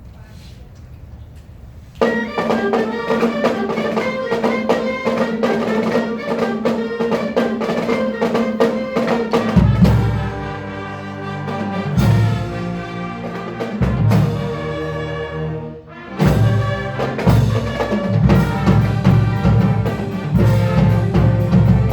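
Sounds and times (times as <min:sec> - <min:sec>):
held brass note: 0:02.0 - 0:21.9
low brass notes: 0:02.0 - 0:21.9
marching band drums: 0:02.0 - 0:21.9.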